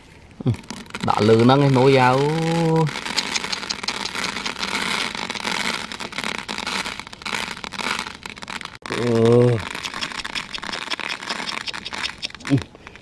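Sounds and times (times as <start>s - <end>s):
rice grains ticking on cardboard: 0.5s - 13.0s.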